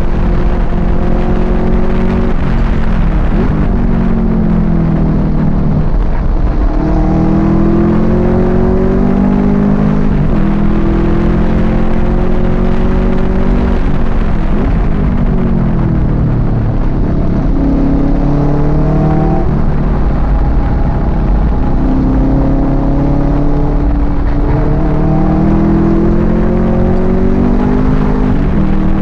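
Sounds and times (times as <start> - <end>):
car engine accelerating: 0.0 - 29.0
wind and road noise: 0.0 - 29.0.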